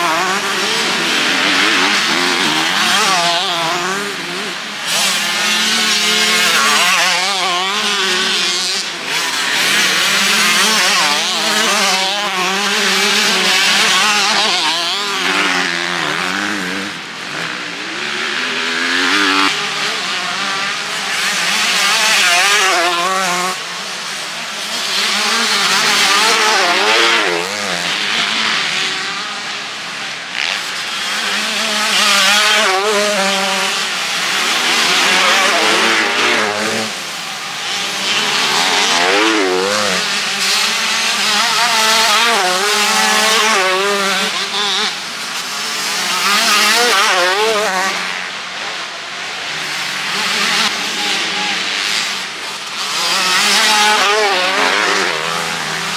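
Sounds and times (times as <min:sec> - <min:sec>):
motocross bikes revving: 0:00.0 - 0:55.9.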